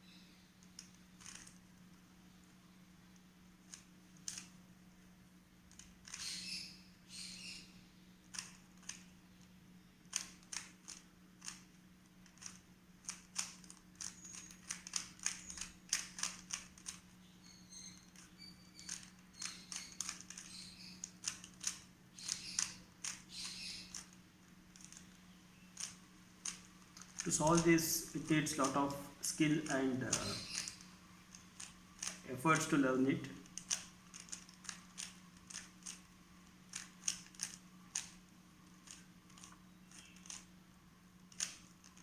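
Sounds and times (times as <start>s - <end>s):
puzzle cube twisting clicks: 0.6s - 1.7s, 3.6s - 4.6s, 5.7s - 6.5s, 8.2s - 9.2s, 10.1s - 40.5s, 41.2s - 42.0s.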